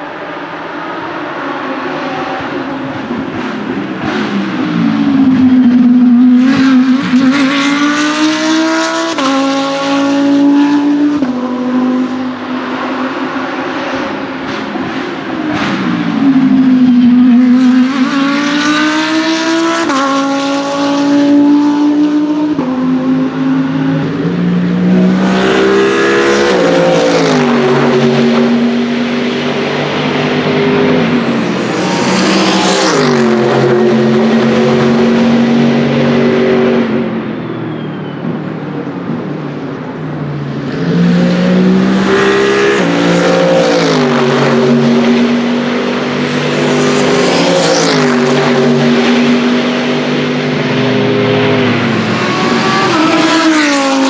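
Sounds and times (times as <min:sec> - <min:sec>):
race cars accelerating: 0:00.0 - 0:54.0.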